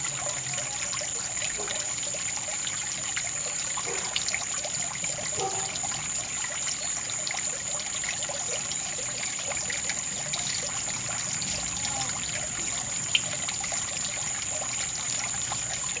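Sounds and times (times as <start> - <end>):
water drips and splashes: 0.0 - 16.0
water trickling: 0.0 - 16.0.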